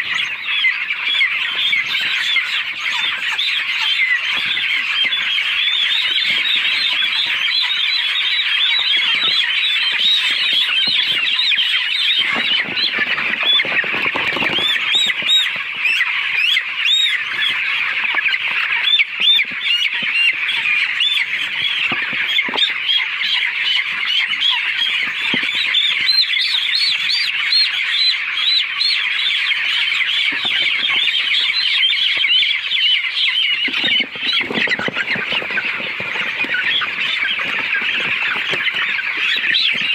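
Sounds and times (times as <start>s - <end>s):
flock of poultry calling: 0.0s - 39.9s.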